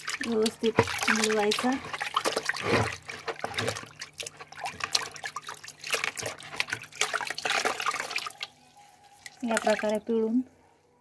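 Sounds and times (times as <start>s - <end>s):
cloth splashing in bucket water: 0.0s - 8.6s, 9.2s - 10.1s.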